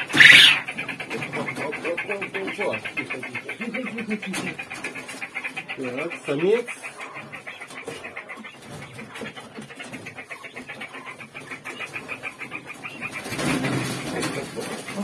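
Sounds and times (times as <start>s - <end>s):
young quail chirping: 0.0s - 15.0s.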